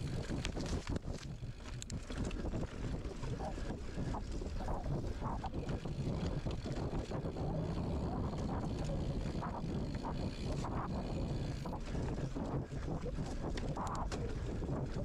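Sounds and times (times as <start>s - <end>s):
muffled wind rumble: 0.0s - 15.0s.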